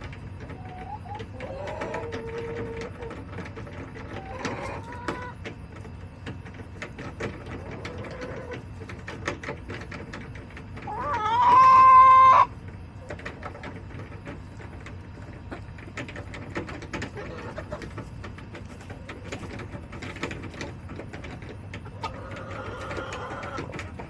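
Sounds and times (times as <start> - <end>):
hens clucking softly: 0.0 - 24.0.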